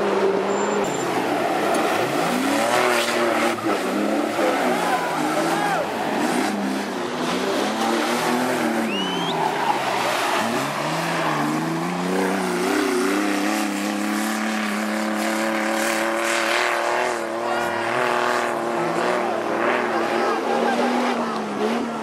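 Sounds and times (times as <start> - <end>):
engine revving hard: 1.0 - 22.0.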